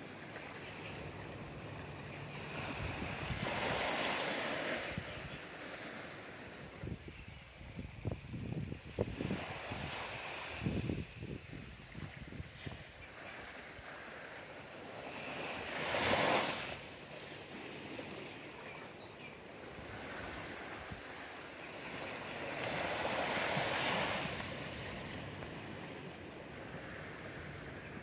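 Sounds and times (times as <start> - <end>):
small waves washing onto sand: 0.0 - 28.0.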